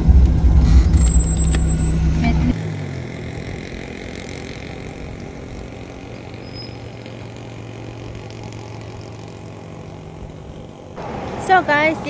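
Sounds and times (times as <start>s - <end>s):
road noise: 0.0s - 12.0s
vehicle engine hum: 0.0s - 12.0s.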